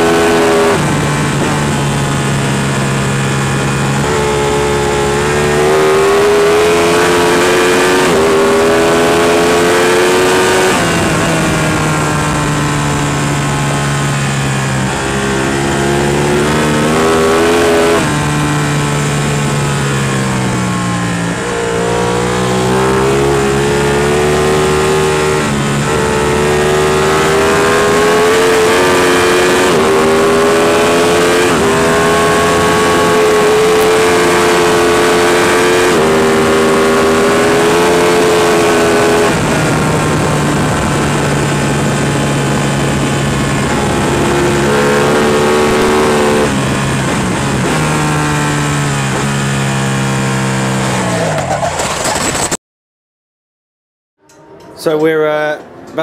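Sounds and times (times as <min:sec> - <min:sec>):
motorcycle engine revving: 0:00.0 - 0:52.6.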